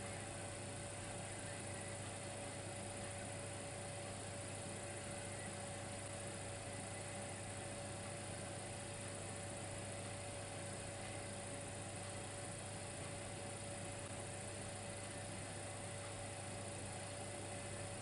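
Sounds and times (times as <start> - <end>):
constant hiss: 0.0 - 18.0
electrical hum: 0.0 - 18.0.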